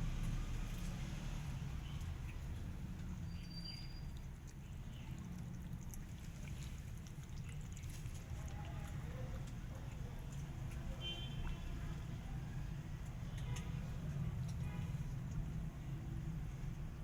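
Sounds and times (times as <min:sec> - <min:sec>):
cat lapping: 0:00.0 - 0:17.0.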